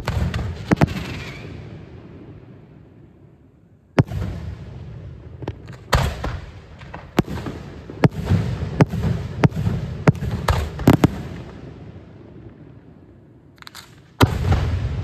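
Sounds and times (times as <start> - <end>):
fireworks bangs: 0.0 - 2.4, 4.0 - 12.8, 14.1 - 15.0.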